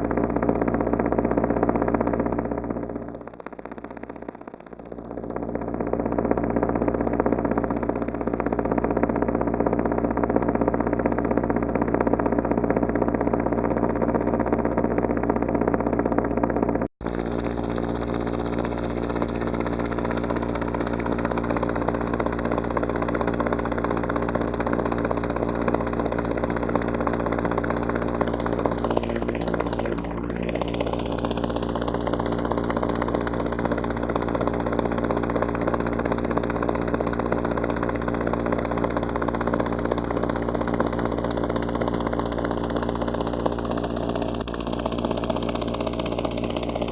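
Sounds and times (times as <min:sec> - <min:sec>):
hollow filter sweep: 0:00.0 - 0:46.9
synthesized helicopter drone: 0:00.0 - 0:46.9.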